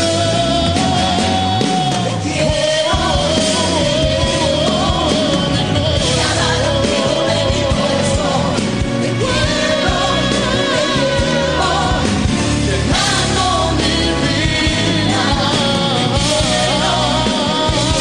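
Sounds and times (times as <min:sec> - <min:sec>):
band accompaniment: 0:00.0 - 0:18.0
man singing pop song: 0:00.0 - 0:18.0.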